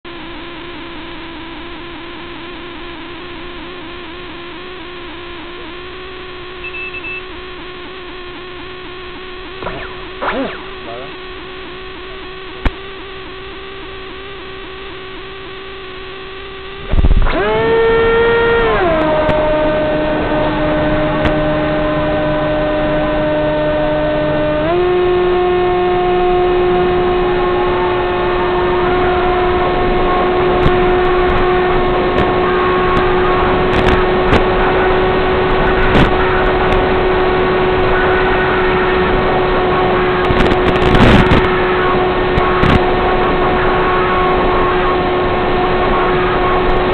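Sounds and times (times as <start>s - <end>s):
electric motor and propeller whine: 0.1s - 46.9s.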